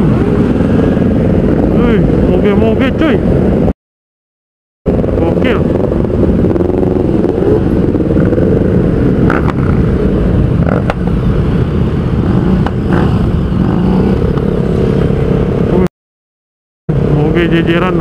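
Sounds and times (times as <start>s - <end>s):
motorcycle engines running: 0.0s - 3.7s, 4.9s - 15.9s, 16.9s - 18.0s.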